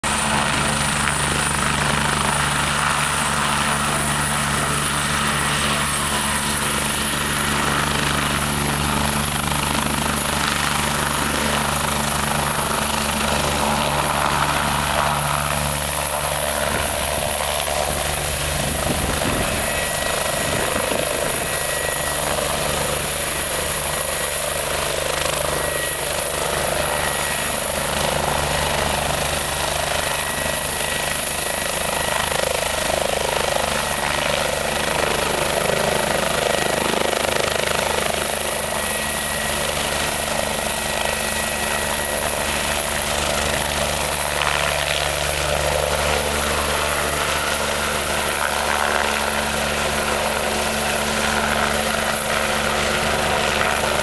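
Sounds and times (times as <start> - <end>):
helicopter rotor noise: 0.0 - 54.0
high turbine whine: 0.1 - 54.0.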